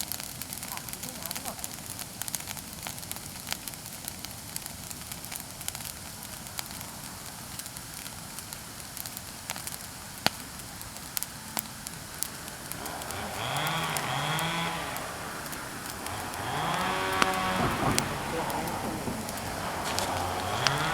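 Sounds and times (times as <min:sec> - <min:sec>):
bonfire crackling and popping: 0:00.0 - 0:20.9.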